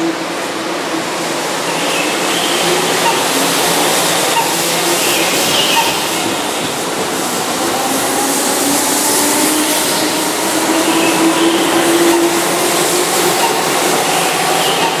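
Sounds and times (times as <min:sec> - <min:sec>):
steady rushing noise: 0:00.1 - 0:15.0.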